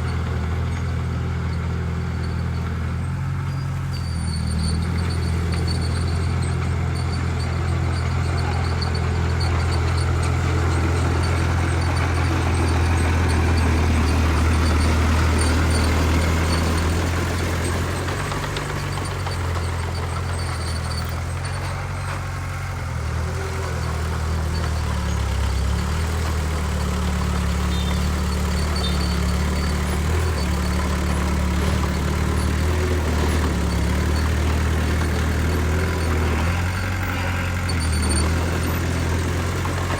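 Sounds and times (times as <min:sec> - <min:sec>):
heavy diesel machinery engine drone: 0:00.0 - 0:39.9.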